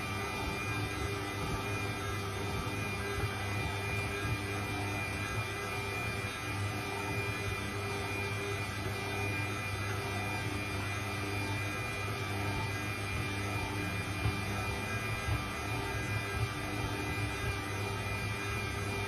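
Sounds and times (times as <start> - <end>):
stand mixer motor humming: 0.0 - 19.0.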